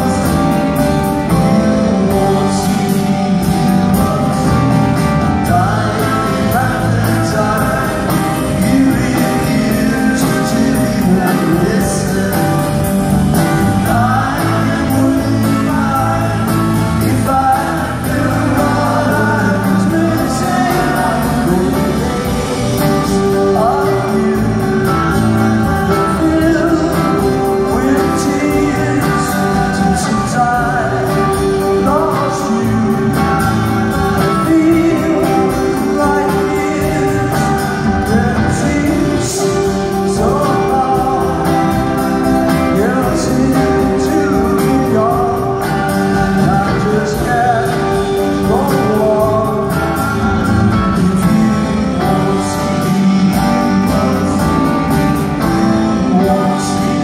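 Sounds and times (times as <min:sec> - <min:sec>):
live rock band: 0:00.0 - 0:57.0
man singing: 0:00.0 - 0:57.0.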